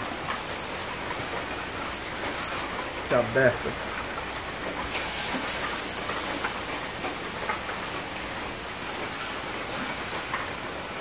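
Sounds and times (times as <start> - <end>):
sausage sizzling in a pot: 0.0 - 11.0.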